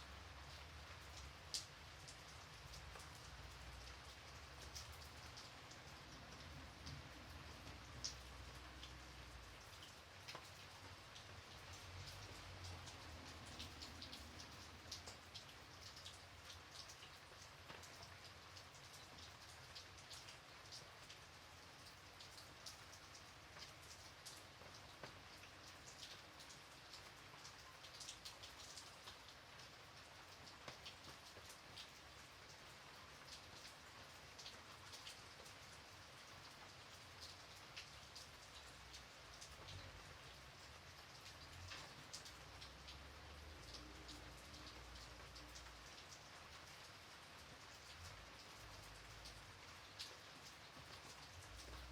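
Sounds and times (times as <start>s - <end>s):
gentle rain: 0.0s - 51.9s.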